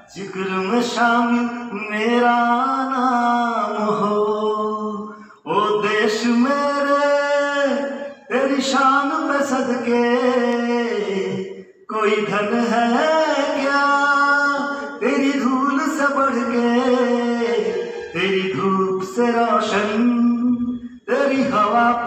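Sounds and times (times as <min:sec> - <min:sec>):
man singing solo: 0:00.0 - 0:22.0.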